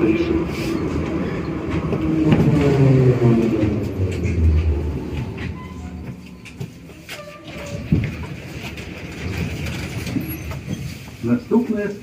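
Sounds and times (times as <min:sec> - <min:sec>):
train traction motors whining: 0:00.0 - 0:10.7.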